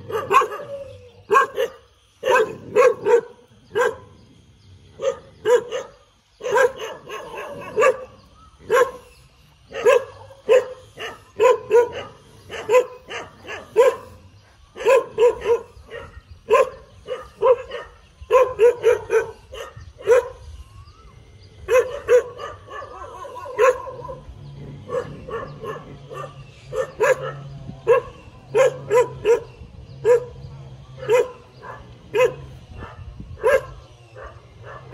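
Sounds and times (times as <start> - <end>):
dog barking: 0.0 - 4.1, 5.0 - 9.1, 9.7 - 14.2, 14.8 - 20.4, 21.7 - 30.4, 31.0 - 34.9.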